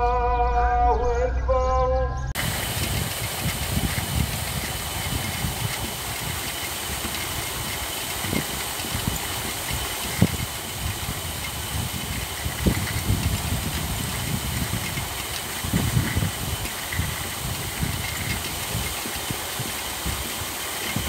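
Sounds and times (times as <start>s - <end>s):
motor hum: 2.4s - 21.0s
paddle wheels splashing water: 2.4s - 21.0s.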